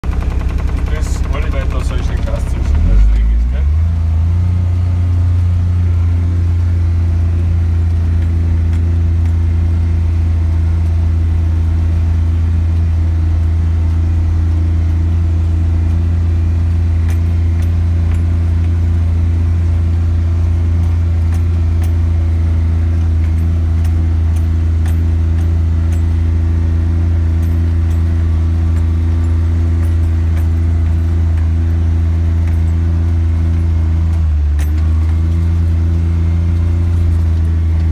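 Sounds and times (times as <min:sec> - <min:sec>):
diesel engine low drone: 0:00.0 - 0:37.9.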